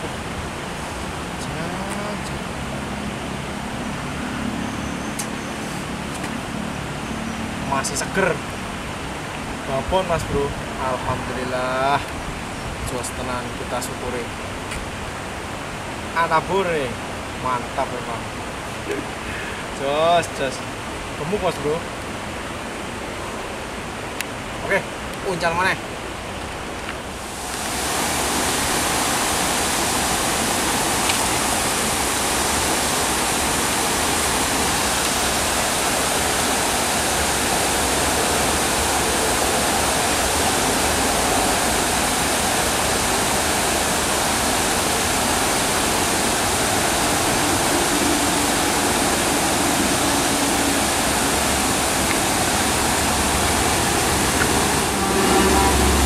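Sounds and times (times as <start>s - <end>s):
water rushing through ditch: 0.0s - 56.0s.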